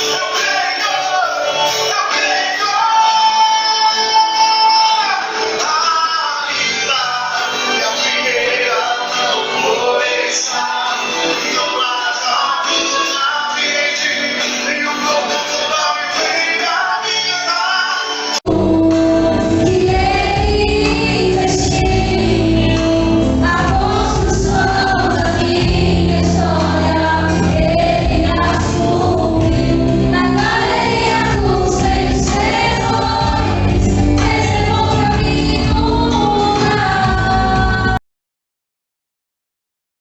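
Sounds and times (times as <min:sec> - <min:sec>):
gospel song singing with backing: 0:00.0 - 0:38.0.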